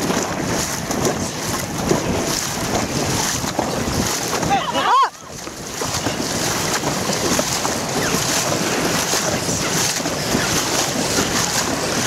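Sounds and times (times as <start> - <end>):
waves lapping: 0.0 - 12.0
wind on microphone: 0.0 - 12.0.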